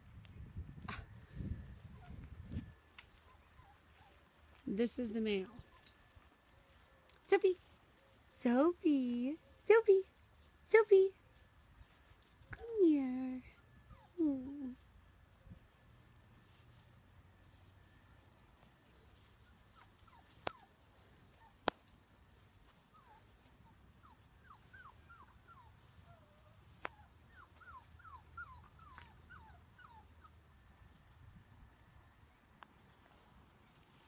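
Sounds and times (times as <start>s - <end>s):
steady high insect buzz: 0.0s - 28.3s
crickets chirping: 0.0s - 34.0s.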